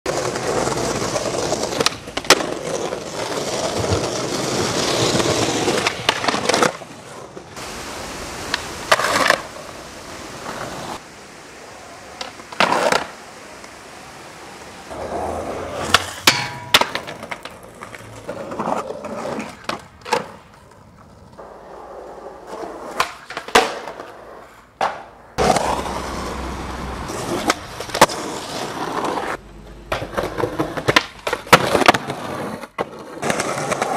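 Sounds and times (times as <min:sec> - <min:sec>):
skateboard clacks: 0:00.1 - 0:07.6, 0:08.5 - 0:09.7, 0:11.8 - 0:13.8, 0:14.9 - 0:33.9
skateboard wheels rolling on concrete: 0:00.1 - 0:33.9.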